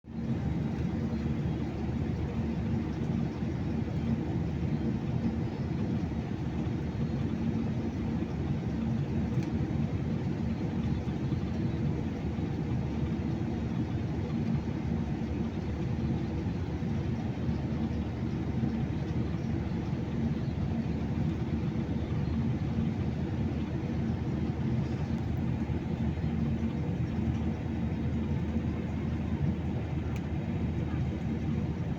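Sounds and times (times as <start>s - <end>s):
airplane engines rumbling: 0.1s - 31.9s
faint steady hum: 0.1s - 31.9s.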